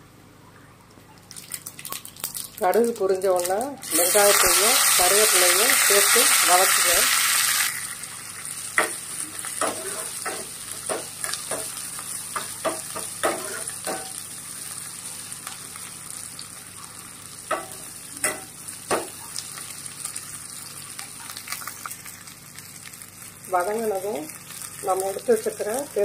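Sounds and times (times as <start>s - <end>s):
onions sizzling in hot oil: 1.6s - 26.0s.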